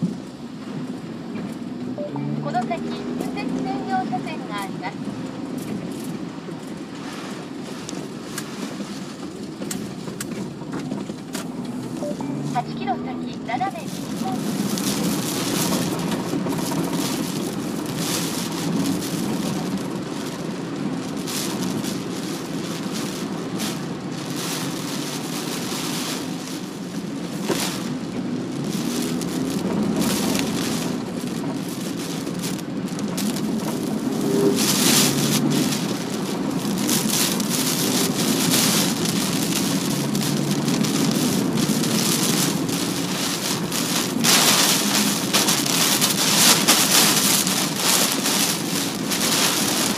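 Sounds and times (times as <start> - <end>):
rain and wind pelting car: 0.0 - 49.9
road and engine noise: 0.0 - 49.9.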